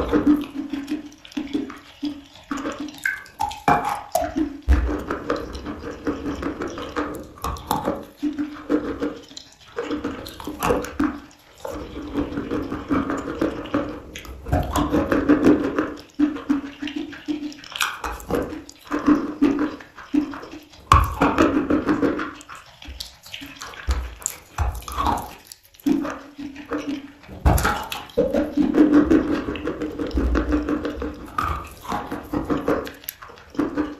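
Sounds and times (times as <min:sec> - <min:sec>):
wet chewing mouth sounds: 0:00.0 - 0:33.9.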